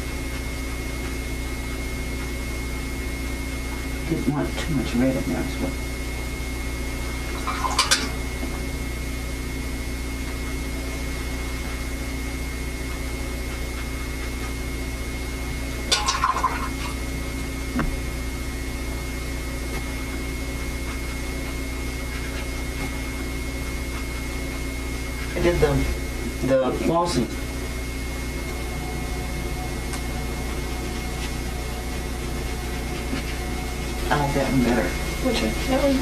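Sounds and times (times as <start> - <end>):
tape hum and hiss: 0.0 - 36.0.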